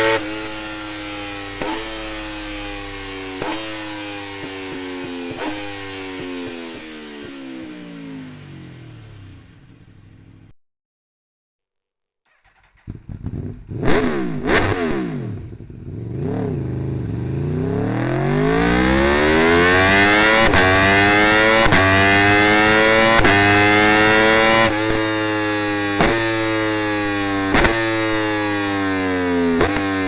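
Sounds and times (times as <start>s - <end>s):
motorcycle engine revving: 0.0s - 10.5s, 12.3s - 30.0s.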